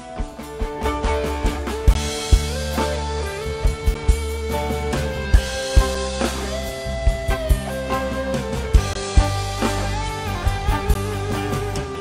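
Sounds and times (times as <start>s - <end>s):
live band instrumental: 0.0s - 12.0s.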